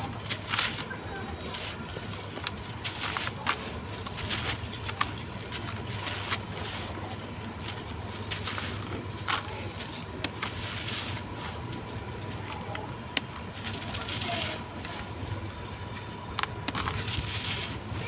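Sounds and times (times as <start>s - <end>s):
blocks crumbling with gritty crunches: 0.0s - 18.0s
steady low hum: 0.0s - 18.0s.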